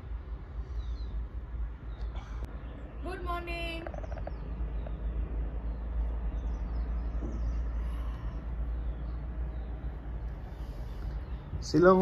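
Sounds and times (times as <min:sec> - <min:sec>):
steady low rumble: 0:00.0 - 0:11.8
faint high bird chirps: 0:01.9 - 0:11.8.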